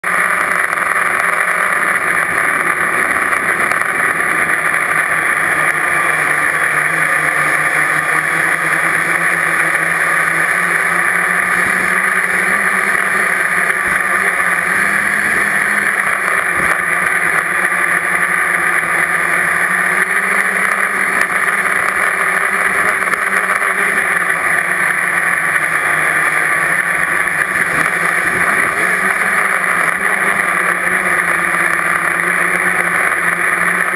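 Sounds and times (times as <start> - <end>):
drone motors buzzing: 0.0 - 33.9
thin propeller whine: 0.0 - 33.9.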